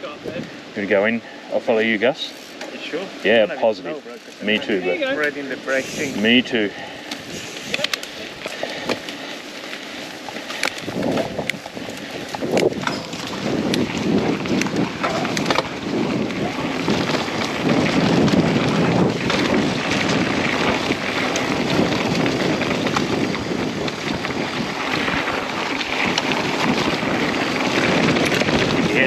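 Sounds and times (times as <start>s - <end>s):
mountain bike rolling on dirt: 0.0s - 29.0s
wind buffeting microphone: 4.6s - 29.0s
sharp clicks and rattles: 5.2s - 29.0s.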